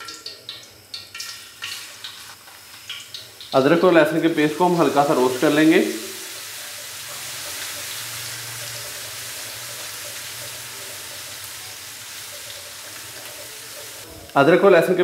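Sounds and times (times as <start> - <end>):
paste sizzling in hot oil: 0.0 - 14.1.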